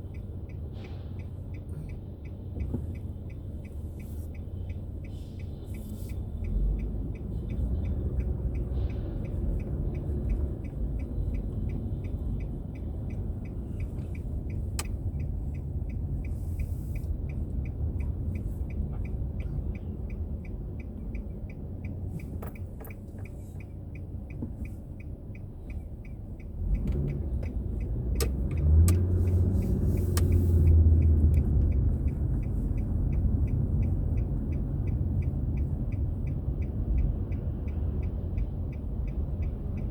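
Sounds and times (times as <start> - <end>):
car engine and road rumble: 0.0 - 39.9
faint regular ticking: 0.0 - 39.9.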